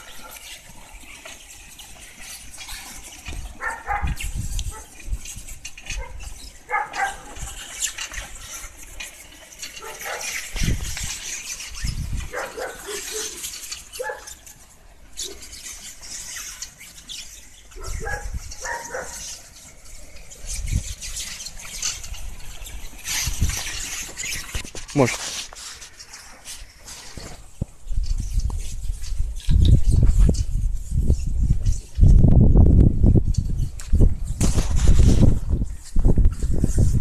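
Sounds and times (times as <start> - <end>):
plastic film rustling and crackling: 0.0 - 30.7.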